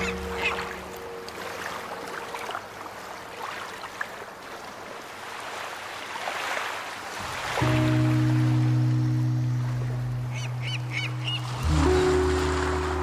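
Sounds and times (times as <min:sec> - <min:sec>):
ocean surf washing: 0:00.0 - 0:13.0.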